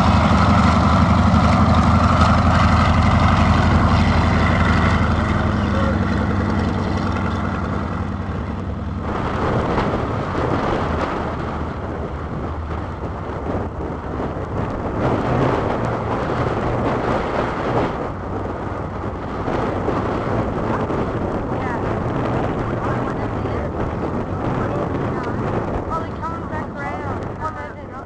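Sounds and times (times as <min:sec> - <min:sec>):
propeller wind rumble: 0:00.0 - 0:28.0
radial aircraft engine powering up: 0:00.0 - 0:28.0.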